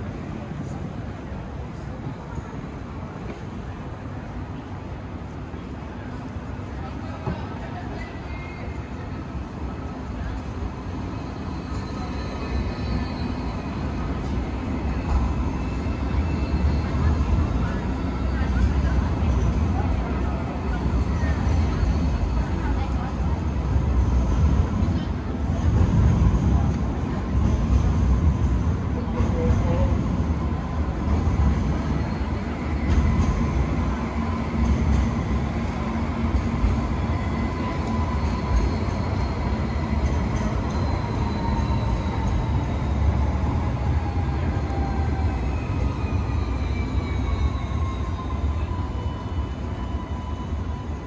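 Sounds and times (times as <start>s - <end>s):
low rumble of street traffic: 0.0s - 51.0s.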